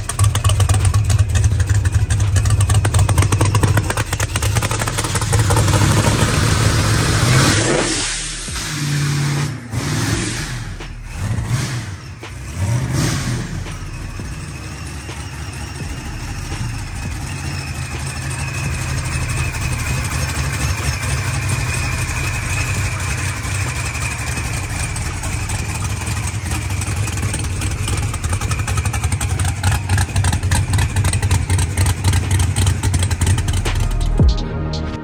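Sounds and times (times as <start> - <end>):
car engine idling with choppy lope: 0.0 - 34.4.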